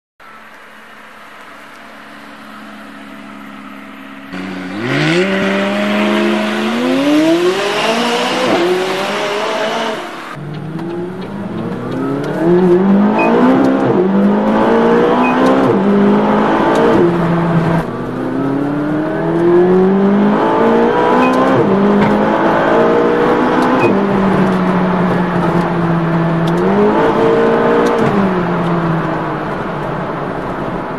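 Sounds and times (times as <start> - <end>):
car engine accelerating through gears: 1.4 - 30.9.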